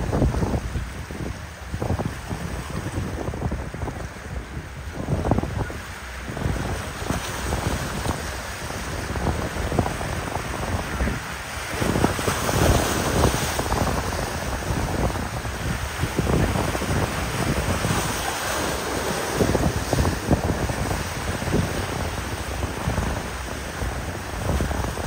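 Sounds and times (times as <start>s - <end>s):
waves rushing and breaking: 0.0s - 25.0s
wind buffeting microphone: 0.0s - 25.0s.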